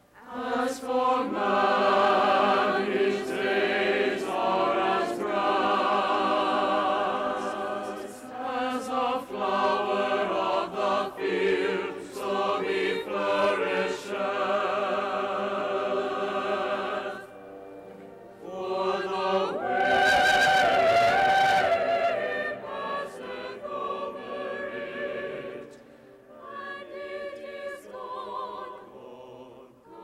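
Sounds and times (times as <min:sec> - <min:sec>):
choir singing with orchestra: 0:00.0 - 0:30.0.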